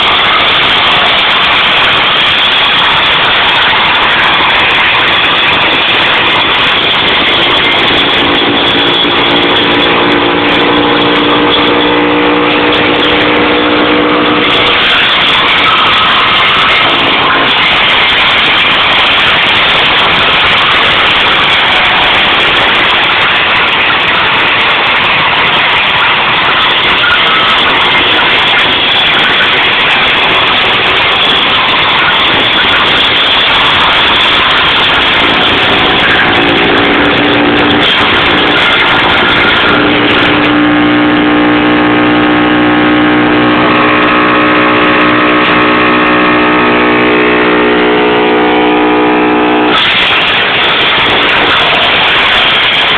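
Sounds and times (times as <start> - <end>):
branch shredder grinding: 0.0 - 52.9
engine drone: 0.0 - 52.9.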